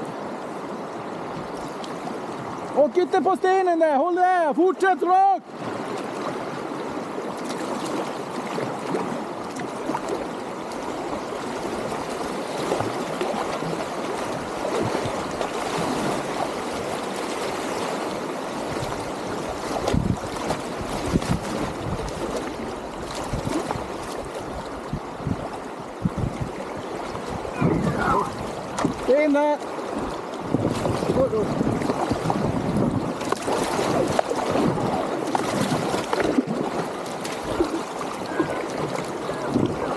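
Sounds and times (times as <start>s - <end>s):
river rapids rushing over stones: 0.1s - 24.8s, 25.6s - 39.9s.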